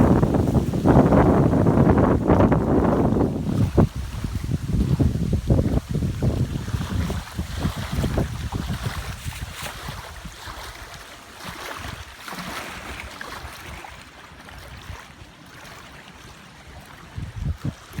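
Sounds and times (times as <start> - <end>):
wind on microphone: 0.0 - 15.1, 16.7 - 18.0
waves lapping: 0.0 - 18.0.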